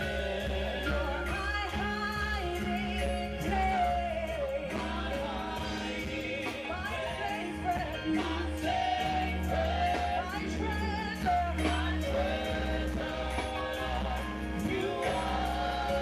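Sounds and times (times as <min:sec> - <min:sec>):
instrumental backing with bass line: 0:00.0 - 0:16.0
voices singing a worship song: 0:00.0 - 0:16.0.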